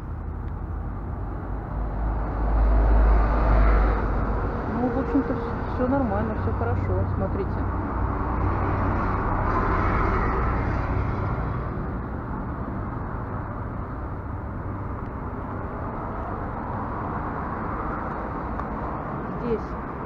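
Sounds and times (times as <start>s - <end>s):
outdoor low rumble: 0.0s - 20.0s.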